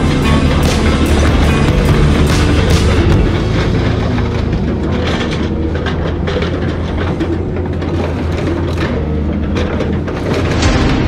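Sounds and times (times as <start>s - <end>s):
excavator engine running: 0.0s - 11.0s
sheet metal crunching and cracking: 0.0s - 11.0s.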